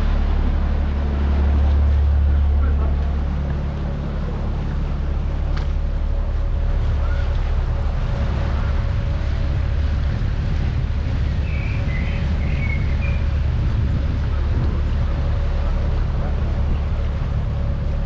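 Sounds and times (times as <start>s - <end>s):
boat motor and water rumble: 0.0s - 18.0s
wind buffeting microphone: 0.0s - 18.0s.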